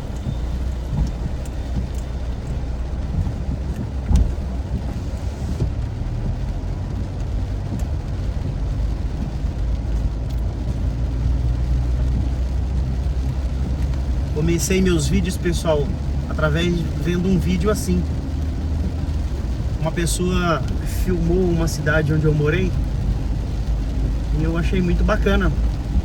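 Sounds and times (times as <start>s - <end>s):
car driving rumble from inside: 0.0s - 26.0s.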